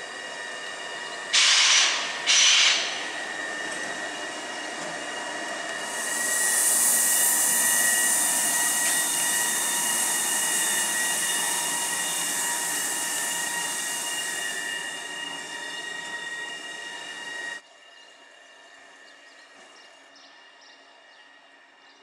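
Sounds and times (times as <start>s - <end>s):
electric locomotive whine: 0.0s - 22.0s
rail and wheel hiss: 0.0s - 22.0s.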